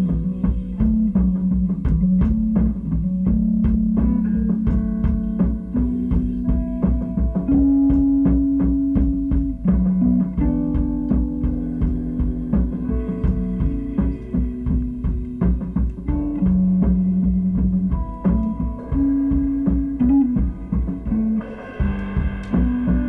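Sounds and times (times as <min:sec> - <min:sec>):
heavy low bass: 0:00.0 - 0:23.0
percussive beat: 0:00.0 - 0:23.0.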